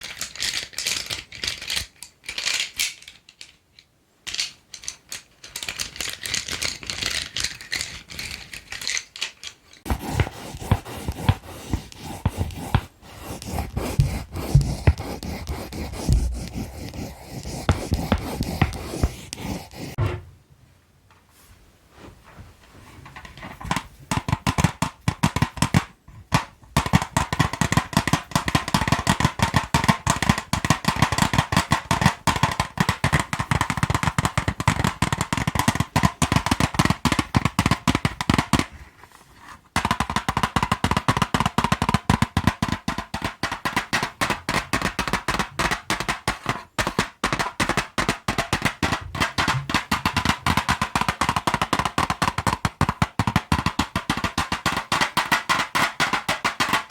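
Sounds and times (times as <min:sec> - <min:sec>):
colored pencils tapping: 0:04.3 - 0:20.0, 0:23.2 - 0:38.8, 0:39.4 - 0:56.9.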